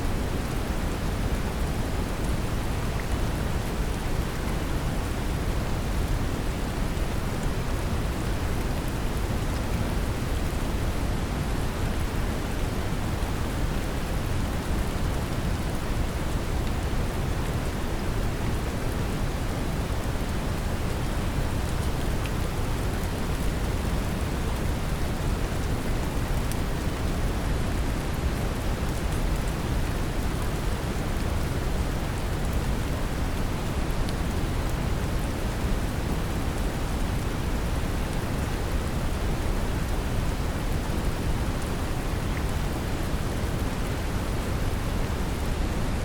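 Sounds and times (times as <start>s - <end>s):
brown noise hiss: 0.0s - 46.0s
gentle rain patter: 0.0s - 46.0s.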